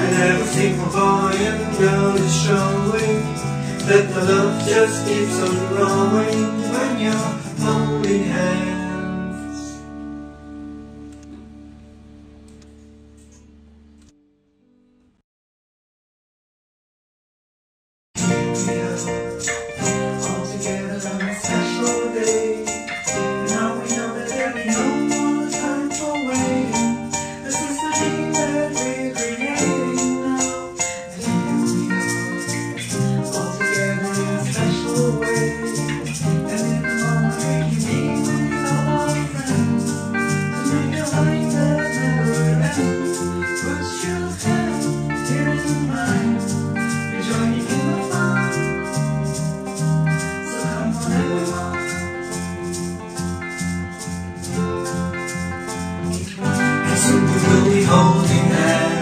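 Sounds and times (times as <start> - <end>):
shaker rhythm: 0.0 - 9.0, 18.2 - 59.0
upbeat pop song: 0.0 - 9.8, 18.2 - 53.8, 55.1 - 59.0
bass: 0.0 - 14.2, 18.2 - 59.0.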